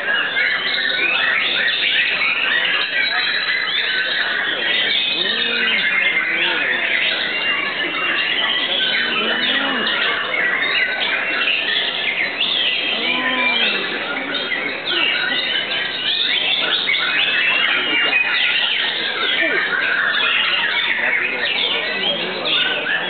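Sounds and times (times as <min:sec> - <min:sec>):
birds singing whistles and trills: 0:00.0 - 0:23.0.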